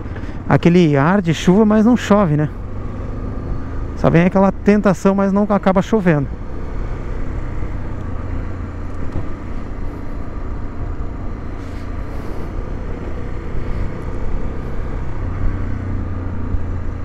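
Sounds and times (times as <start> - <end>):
wind and road noise: 0.0 - 17.0
motorcycle engine running: 1.6 - 17.0.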